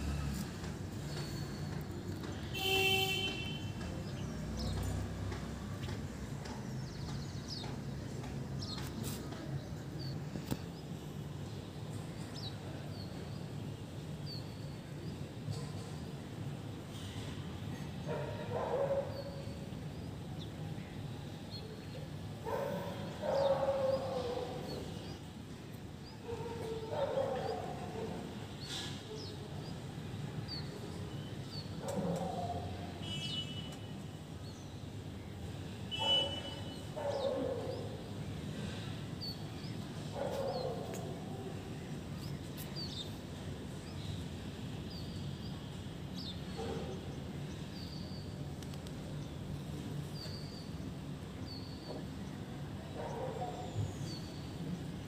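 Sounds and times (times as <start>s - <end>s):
birds chirping: 0.0s - 15.3s, 18.1s - 25.4s, 26.0s - 38.4s, 39.2s - 54.7s
city background hum: 0.0s - 55.0s.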